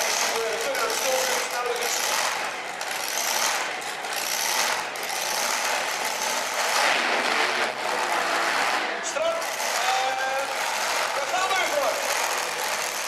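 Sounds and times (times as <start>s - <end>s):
truck engine idling clatter: 0.0s - 13.0s.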